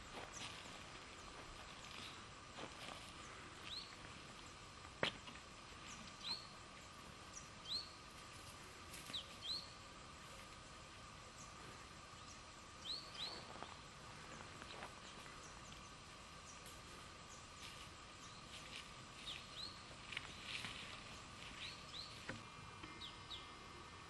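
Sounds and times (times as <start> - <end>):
small birds chirping: 0.0 - 23.8
faint steady hum: 0.0 - 24.0.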